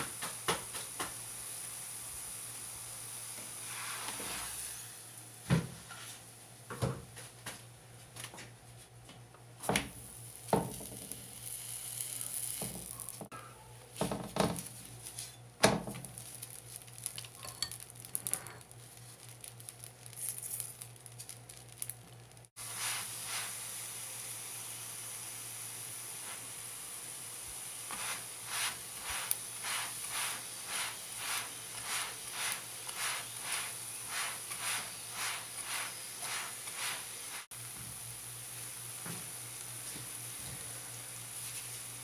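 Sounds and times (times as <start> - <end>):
flatbread sizzling in oil: 0.0 - 6.5, 9.6 - 13.3, 14.0 - 42.0.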